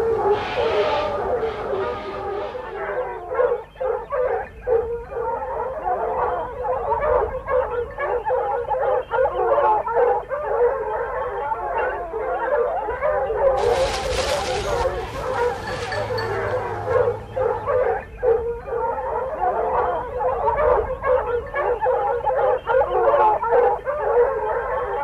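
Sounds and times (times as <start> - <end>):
hounds baying: 0.0 - 25.0.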